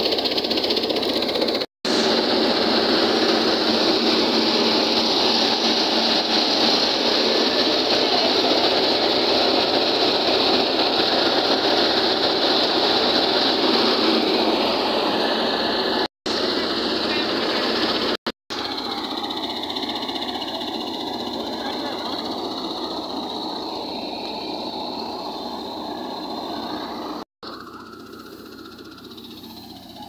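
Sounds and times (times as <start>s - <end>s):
tractor driving thresher: 0.0s - 30.0s.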